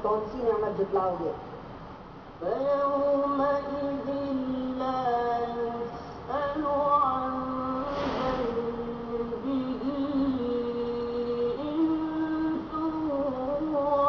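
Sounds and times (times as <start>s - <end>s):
person chanting a recitation: 2.4s - 14.0s.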